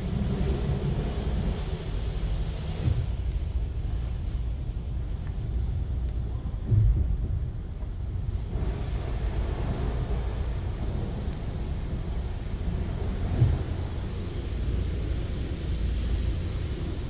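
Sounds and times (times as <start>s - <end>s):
vehicle rumble inside car cabin: 0.0s - 17.0s.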